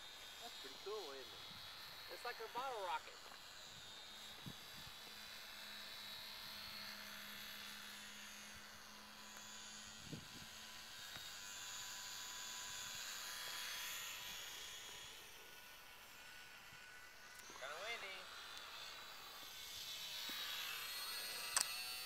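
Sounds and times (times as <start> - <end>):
small rc plane motor buzzing: 0.0 - 22.0.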